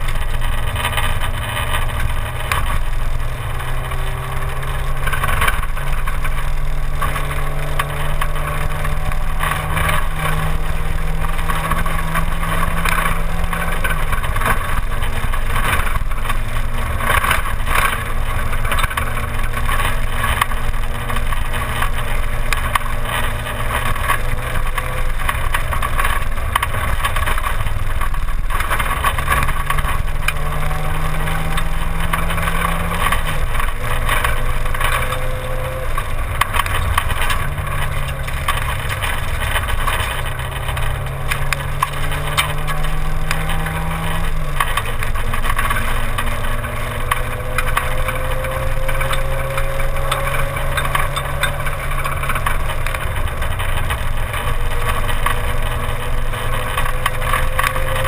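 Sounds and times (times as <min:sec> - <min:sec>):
car engine running hard: 0:00.0 - 0:58.0
tyre and road noise: 0:00.0 - 0:58.0.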